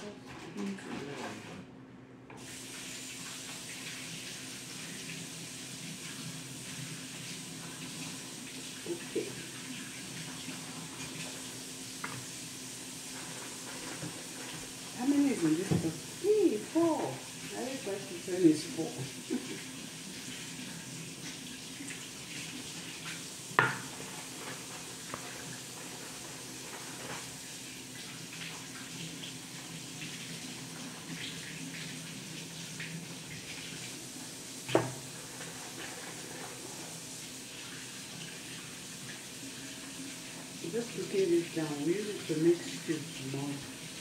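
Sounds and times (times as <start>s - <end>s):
tap water running: 2.3s - 44.0s.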